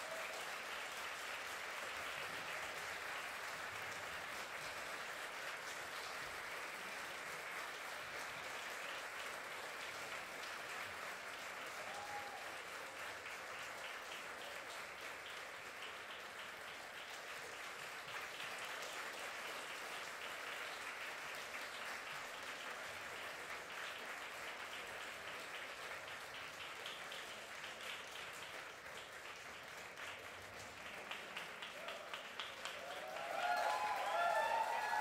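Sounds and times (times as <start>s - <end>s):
audience applauding: 0.0s - 35.0s.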